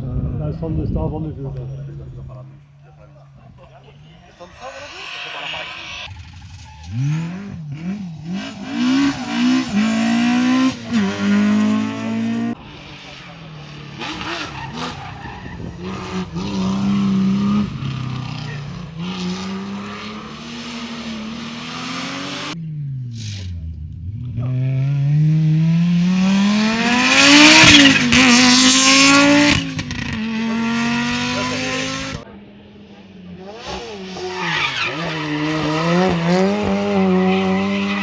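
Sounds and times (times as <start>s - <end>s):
rally car engine accelerating: 0.0s - 38.0s
tyre and road noise: 0.0s - 38.0s.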